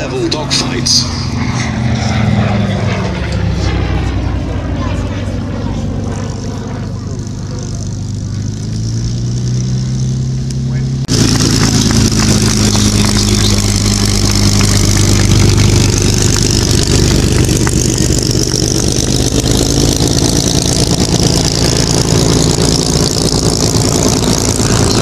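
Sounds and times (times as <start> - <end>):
aircraft piston engine drone: 0.0 - 25.0.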